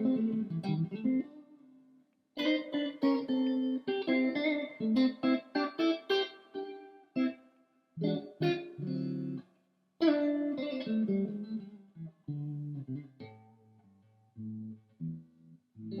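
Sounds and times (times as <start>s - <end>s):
electric guitar: 0.0s - 7.4s, 8.0s - 16.0s.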